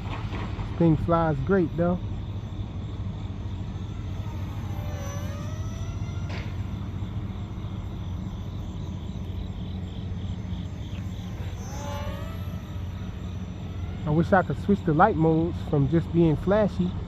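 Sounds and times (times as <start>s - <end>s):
model plane propeller whirring: 0.0s - 17.0s
steady low hum: 0.0s - 17.0s.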